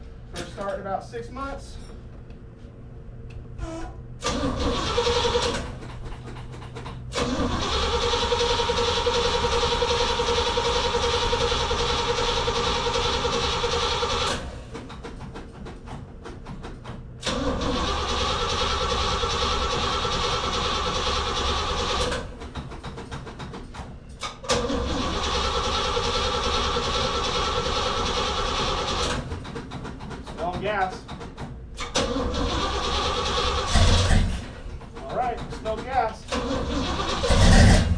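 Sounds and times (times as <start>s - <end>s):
starter cranking car engine: 4.2s - 15.6s, 17.2s - 23.6s, 24.2s - 37.9s.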